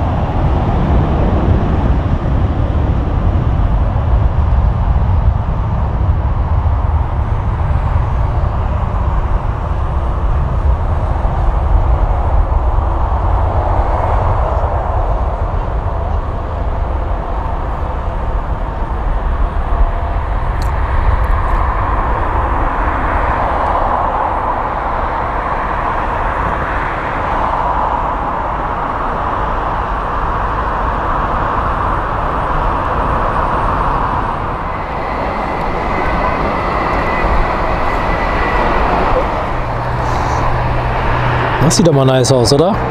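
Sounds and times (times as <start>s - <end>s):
faint steady whine: 0.0s - 42.9s
jet engines rumbling: 0.0s - 42.9s.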